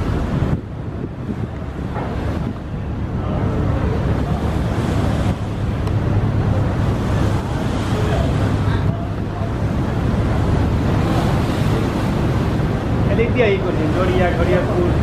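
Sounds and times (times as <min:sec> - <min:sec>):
churning river water: 0:00.0 - 0:15.0
wind buffeting microphone: 0:00.0 - 0:15.0.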